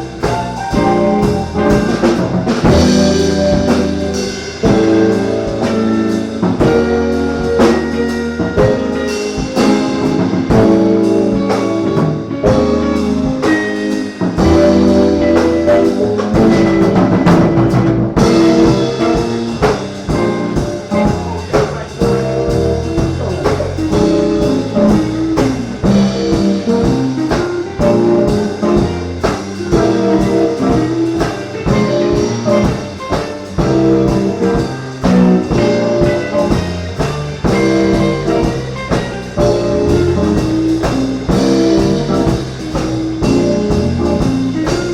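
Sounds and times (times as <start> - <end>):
bass: 0.0 - 44.9
drum kit: 0.0 - 44.9
horns playing melody: 0.0 - 44.9.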